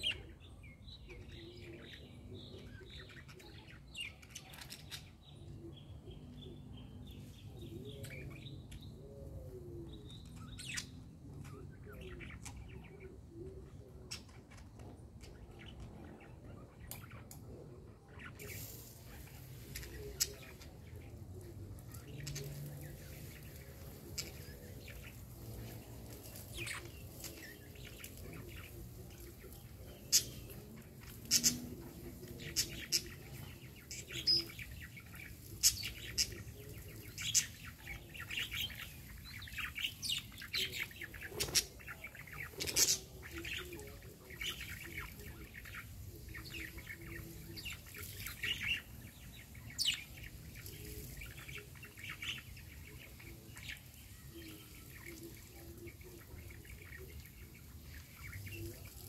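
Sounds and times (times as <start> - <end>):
birds chirping: 0.0 - 59.0
faint low background noise: 0.0 - 59.0.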